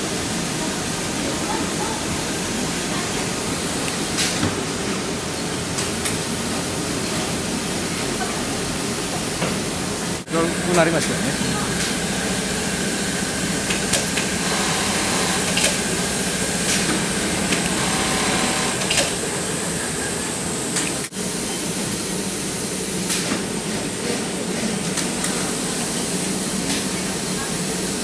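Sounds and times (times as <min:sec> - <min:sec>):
many sewing machines running: 0:00.0 - 0:28.0.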